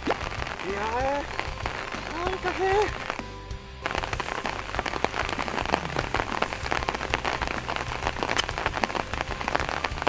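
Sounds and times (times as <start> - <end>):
heavy rain patter: 0.0 - 10.0.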